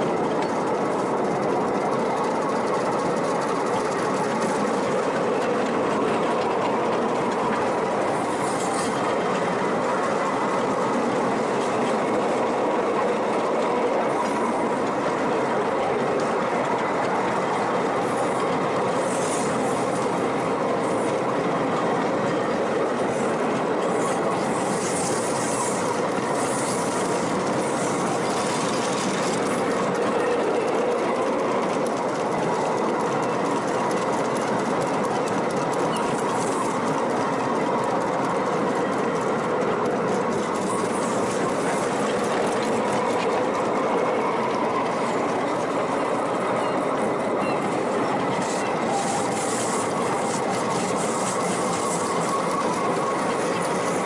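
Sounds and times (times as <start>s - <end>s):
small train wheels clattering on track: 0.0s - 54.0s.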